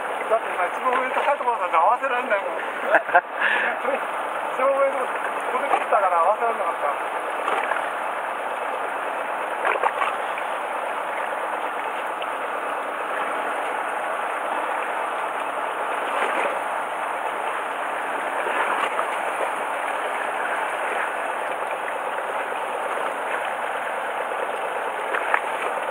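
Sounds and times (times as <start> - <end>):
sea water splashing against boat: 0.0 - 25.9.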